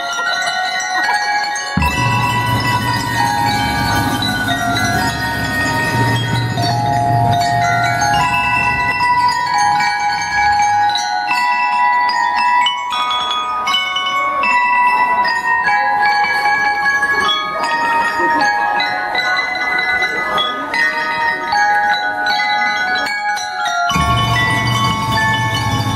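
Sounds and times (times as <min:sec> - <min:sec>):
bell lyre melody: 0:00.0 - 0:25.9.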